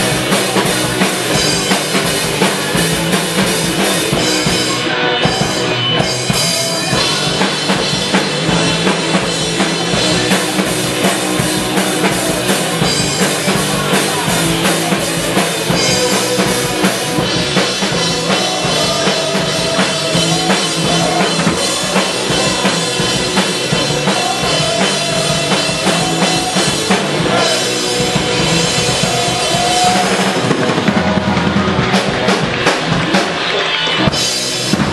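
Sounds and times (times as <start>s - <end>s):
drum kit beat: 0.0s - 34.9s
rock band playing: 0.0s - 34.9s.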